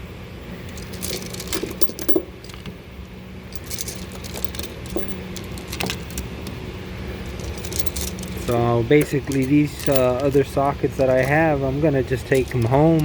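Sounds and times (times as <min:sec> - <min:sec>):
steady low hum: 0:00.0 - 0:13.0
metal tools clinking: 0:00.7 - 0:02.8, 0:03.5 - 0:06.6, 0:07.2 - 0:13.0.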